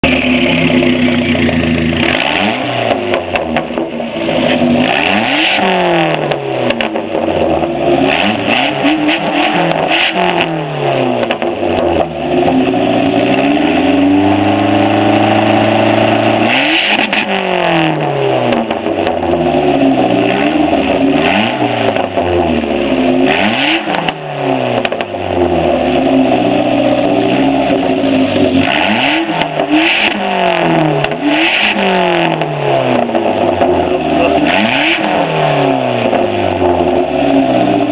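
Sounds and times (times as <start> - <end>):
car engine revving: 0.0 - 37.9
exhaust crackles: 0.0 - 37.9.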